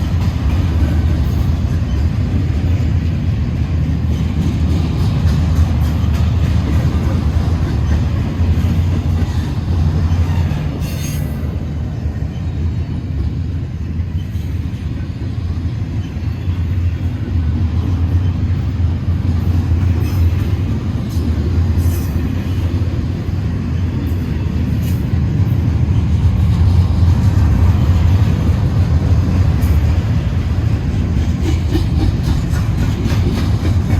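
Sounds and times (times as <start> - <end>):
wheels clicking over rail joints: 0.0 - 11.2, 15.9 - 33.9
steel wheels rumbling on rails: 0.0 - 33.9.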